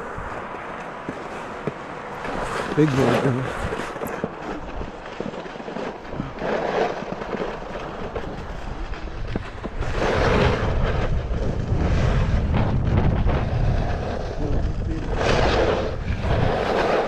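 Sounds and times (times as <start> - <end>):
snowskate scraping over snow: 0.0 - 17.0
wind rumbling on microphone: 0.0 - 17.0.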